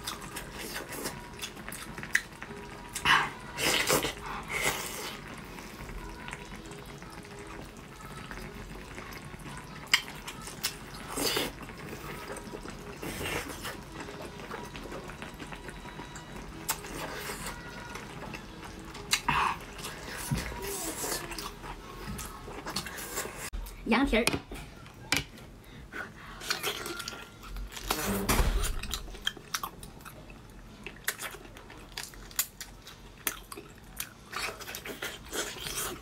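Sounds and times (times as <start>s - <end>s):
wet slurping and chewing: 0.0s - 5.9s, 8.3s - 23.5s, 25.9s - 36.0s.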